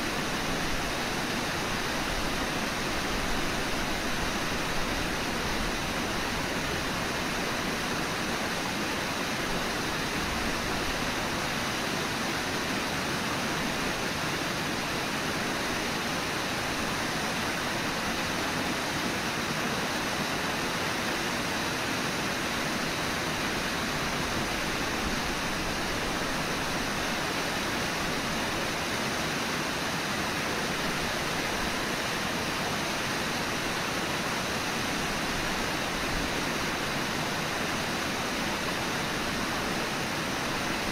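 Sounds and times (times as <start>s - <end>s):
whitewater rushing over rapids: 0.0s - 40.9s.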